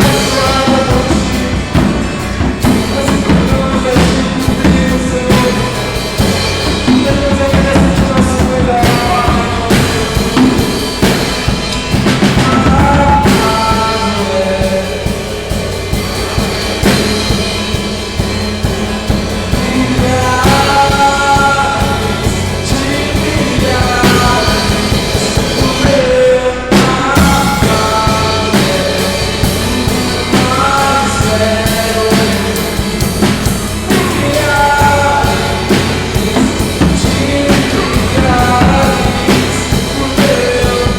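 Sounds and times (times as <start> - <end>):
acoustic guitar: 0.0 - 40.9
drum kit beat: 0.0 - 40.9
person singing: 0.0 - 40.9.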